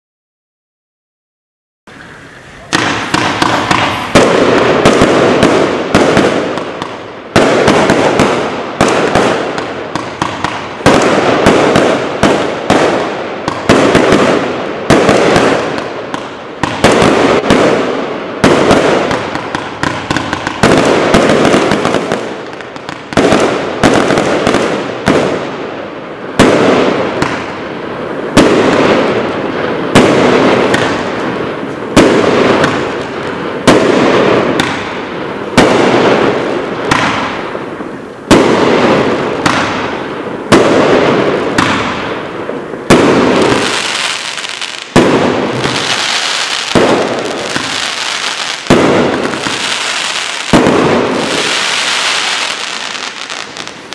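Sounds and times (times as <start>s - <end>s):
firework bangs: 1.9s - 53.9s
firework crackling: 1.9s - 53.9s.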